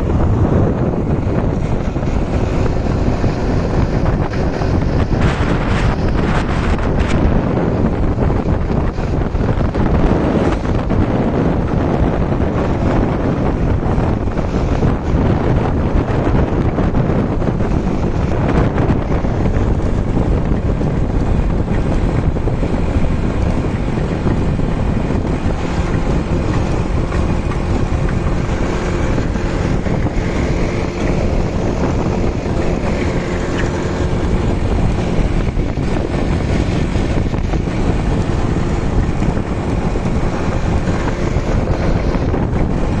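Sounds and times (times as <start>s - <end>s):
motorcycle engine running: 0.0s - 43.0s
wind buffeting microphone: 0.0s - 43.0s.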